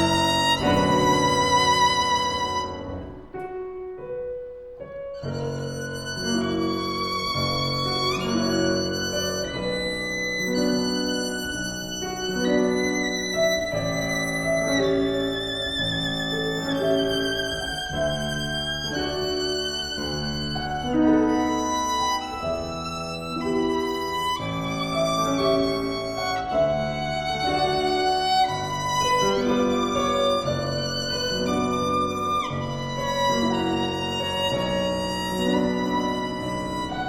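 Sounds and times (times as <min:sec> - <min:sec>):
violin melody with vibrato: 0:00.0 - 0:03.6, 0:05.0 - 0:37.0
piano accompaniment: 0:00.0 - 0:37.0.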